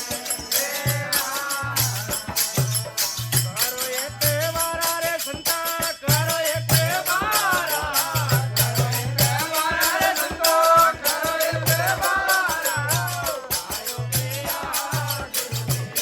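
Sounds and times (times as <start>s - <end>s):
drum and rattling percussion: 0.0s - 16.0s.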